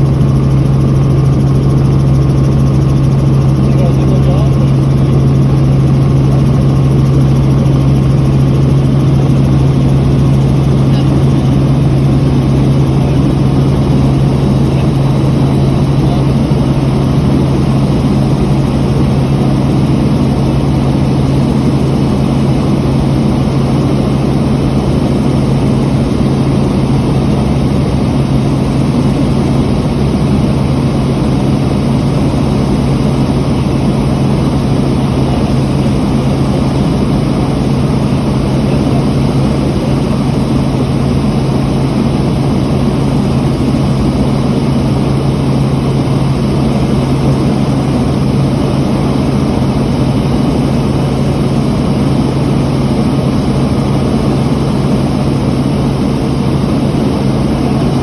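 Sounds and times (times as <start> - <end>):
helicopter engine and rotors: 0.0 - 58.0.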